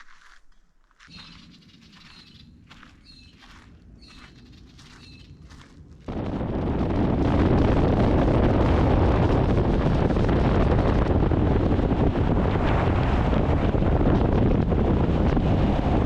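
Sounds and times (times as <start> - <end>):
wind rushing over microphone: 1.2 - 16.0
vehicle driving at speed: 1.4 - 16.0.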